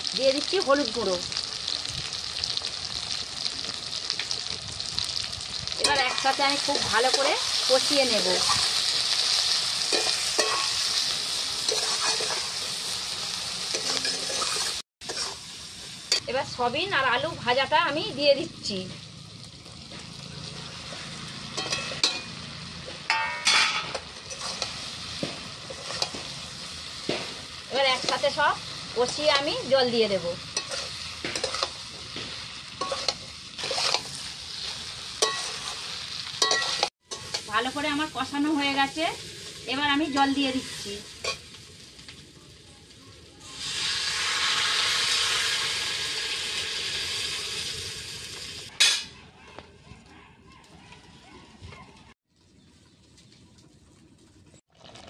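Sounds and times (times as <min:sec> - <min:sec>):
food sizzling in a pan: 0:00.0 - 0:49.0.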